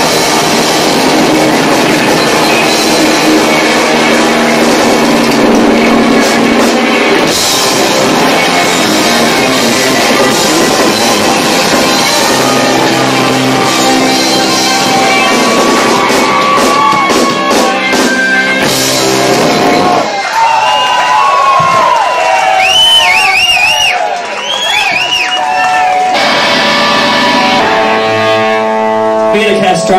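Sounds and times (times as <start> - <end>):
distorted live rock band: 0.0 - 29.9.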